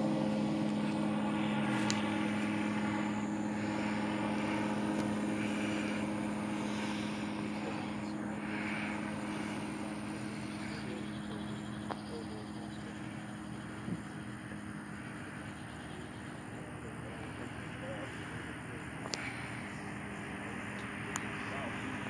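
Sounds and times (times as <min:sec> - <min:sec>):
propeller airplane engine drone: 0:00.0 - 0:22.0.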